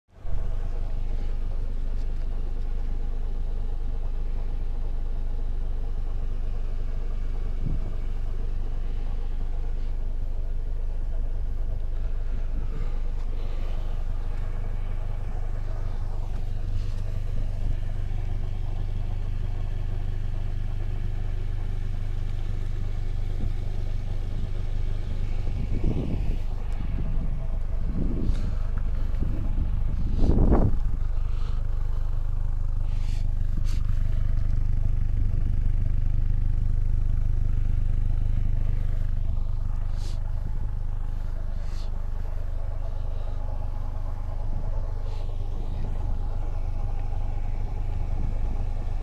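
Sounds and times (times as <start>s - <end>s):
car engine idling: 0.1s - 49.0s.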